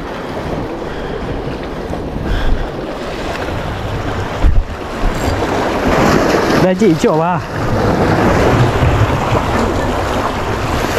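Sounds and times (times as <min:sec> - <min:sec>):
waves splashing on rocks: 0:00.0 - 0:10.9
wind on microphone: 0:00.0 - 0:10.9.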